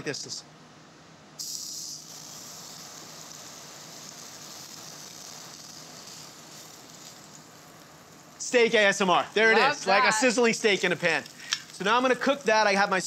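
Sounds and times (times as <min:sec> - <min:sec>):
meat sizzling in a pan: 0:01.4 - 0:13.0.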